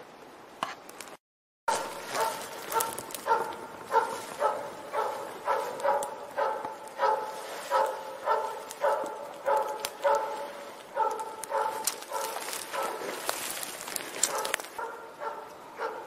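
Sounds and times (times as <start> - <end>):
dog barking steadily: 1.7 - 16.0.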